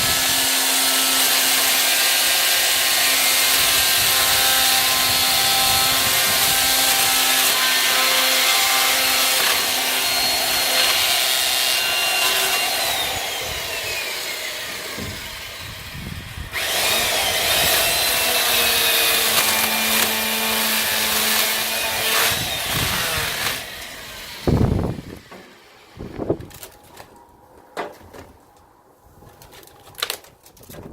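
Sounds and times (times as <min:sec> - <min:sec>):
electric saw cutting wood: 0:00.0 - 0:27.1.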